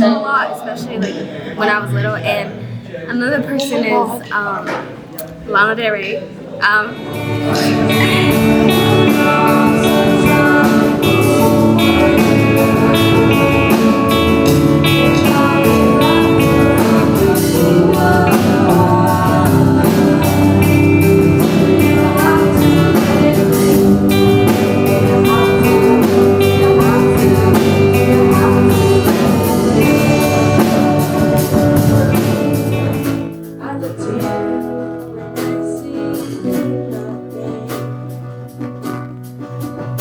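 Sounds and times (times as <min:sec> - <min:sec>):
guitar: 0:00.0 - 0:40.0
person singing: 0:06.6 - 0:38.9
drum kit: 0:07.1 - 0:40.0.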